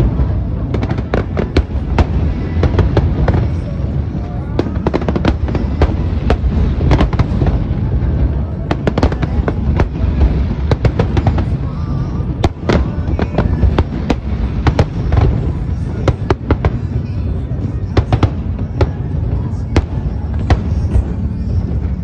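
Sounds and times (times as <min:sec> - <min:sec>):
fireworks bursting: 0:00.0 - 0:22.0
low rumble: 0:00.0 - 0:22.0.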